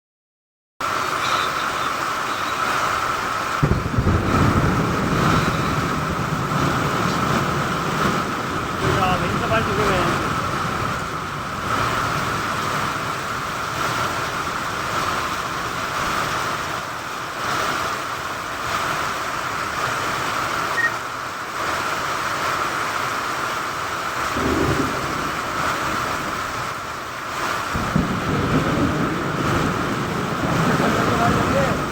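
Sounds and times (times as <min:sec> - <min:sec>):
steady rain falling: 0:00.8 - 0:31.9
thunder rumbling: 0:01.1 - 0:20.6, 0:24.0 - 0:31.9.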